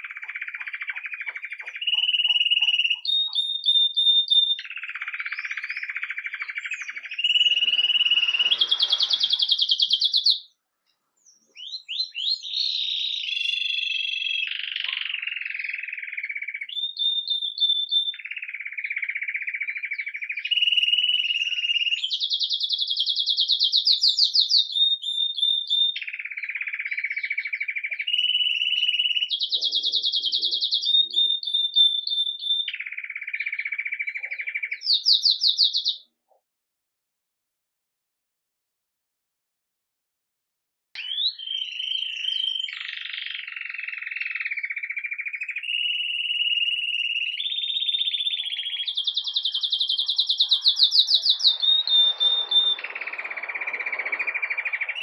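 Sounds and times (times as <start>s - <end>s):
canary singing trills: 0.0s - 10.6s, 11.2s - 36.1s, 41.0s - 55.0s.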